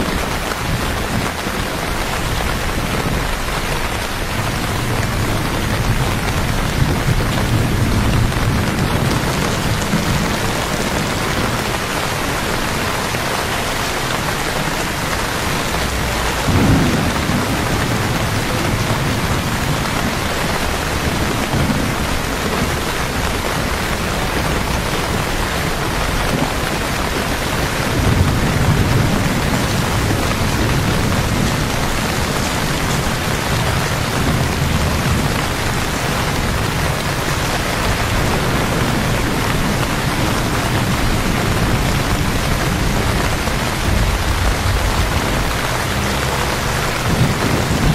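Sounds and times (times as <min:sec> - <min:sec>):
heavy rain on wet street: 0:00.0 - 0:47.9.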